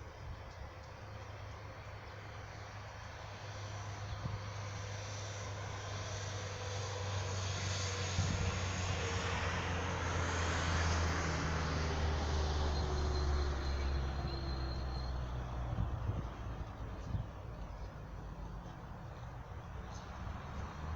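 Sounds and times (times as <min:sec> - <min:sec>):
airplane engine drone: 0:00.0 - 0:20.9.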